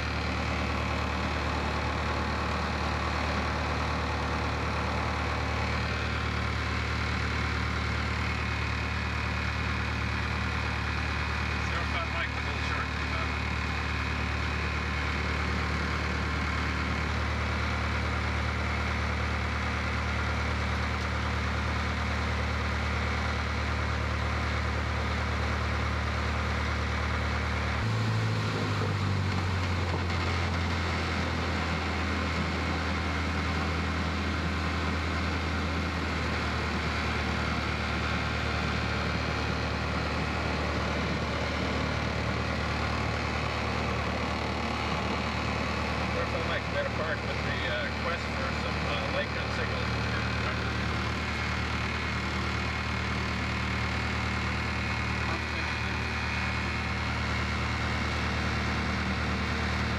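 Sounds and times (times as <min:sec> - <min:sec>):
piston engine and propeller drone: 0:00.0 - 0:59.9.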